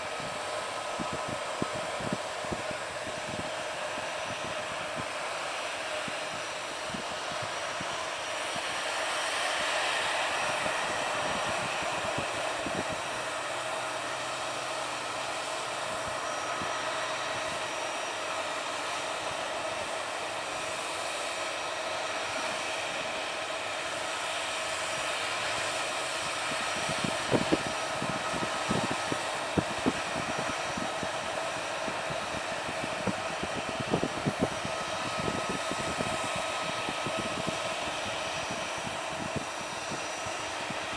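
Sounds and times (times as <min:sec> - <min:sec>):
jet engines hissing and whining: 0:00.0 - 0:40.9.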